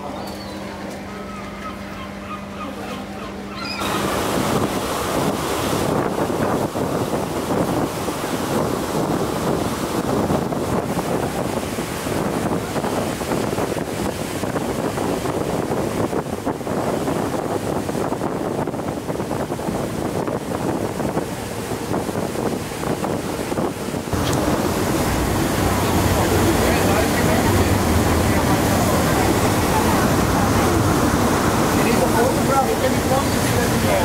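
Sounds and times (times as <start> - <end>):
water rushing along boat: 0.0 - 34.0
wind buffeting microphone: 3.8 - 34.0.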